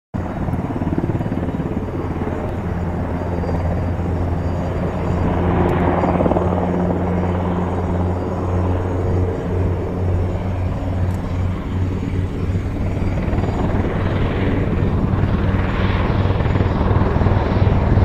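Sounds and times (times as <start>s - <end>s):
helicopter flying low: 0.2s - 18.0s.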